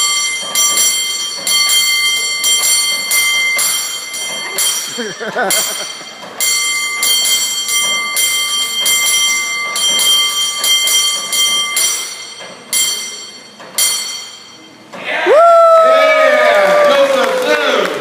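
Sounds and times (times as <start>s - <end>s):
cable car bell clanging: 0.0s - 15.0s.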